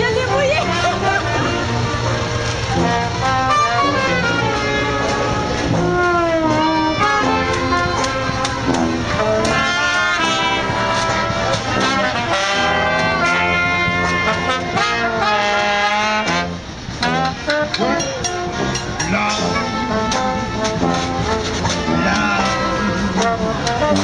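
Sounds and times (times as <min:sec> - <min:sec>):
brass band playing lively tune: 0:00.0 - 0:24.0.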